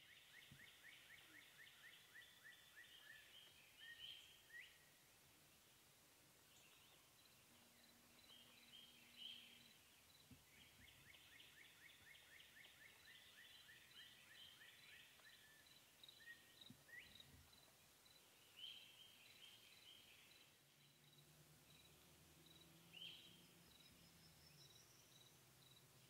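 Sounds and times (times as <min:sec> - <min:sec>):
songbird chirps: 0:00.0 - 0:26.0.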